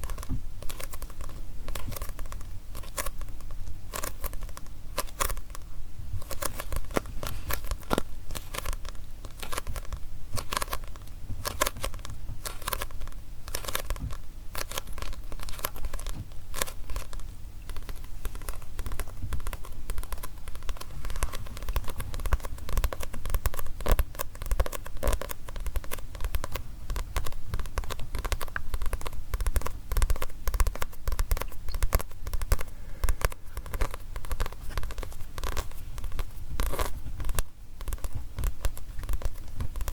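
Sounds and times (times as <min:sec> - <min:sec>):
fingers tapping and scratching paper: 0:00.0 - 0:39.9.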